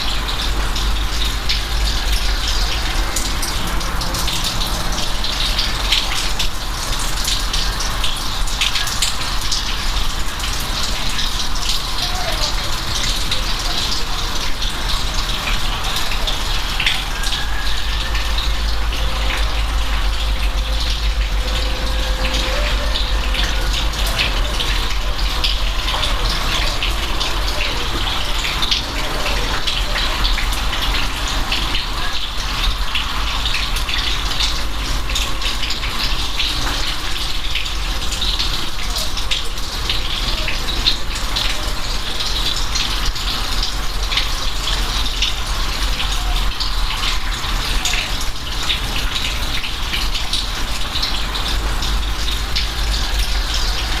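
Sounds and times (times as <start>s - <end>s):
running water: 0.0s - 54.0s
steady rain: 0.0s - 54.0s.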